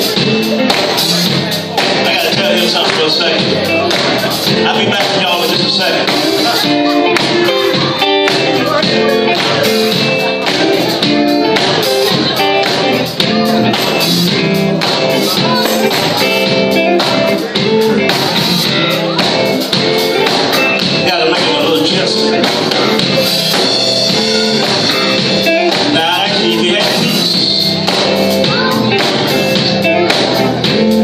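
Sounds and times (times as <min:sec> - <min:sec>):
band music led by guitar: 0:00.0 - 0:31.0
person singing: 0:00.0 - 0:31.0.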